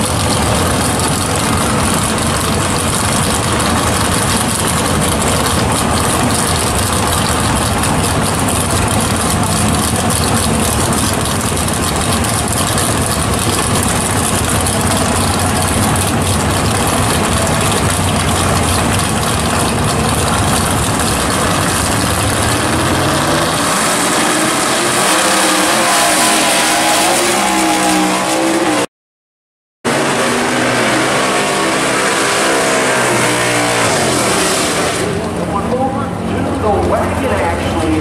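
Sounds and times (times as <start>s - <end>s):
drag car engines revving: 0.0s - 28.9s, 29.9s - 38.0s
tyre burnout: 0.0s - 28.9s, 29.9s - 35.6s.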